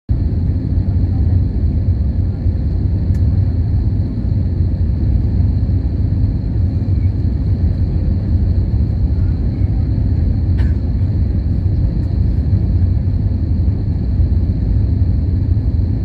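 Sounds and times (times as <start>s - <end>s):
jet engines rumbling in cabin: 0.1s - 16.0s
faint high whine: 0.2s - 16.0s.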